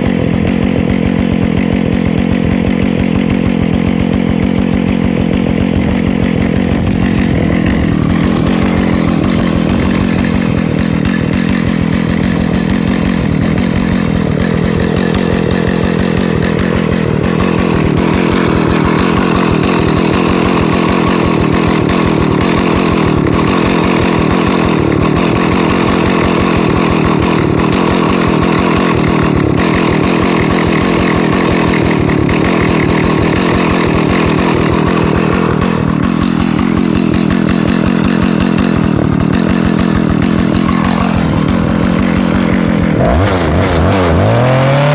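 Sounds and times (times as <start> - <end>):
chainsaw running: 0.0 - 44.9.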